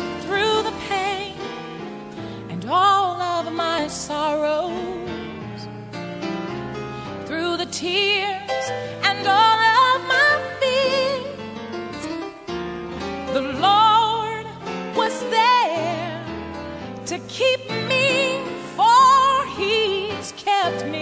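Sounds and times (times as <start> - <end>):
keyboard and bass accompaniment: 0.0 - 21.0.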